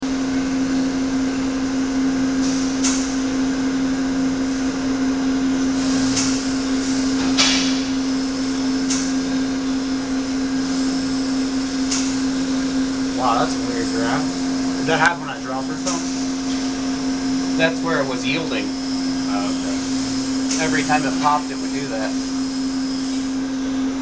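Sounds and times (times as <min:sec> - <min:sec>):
hydraulic press humming: 0:00.0 - 0:24.0.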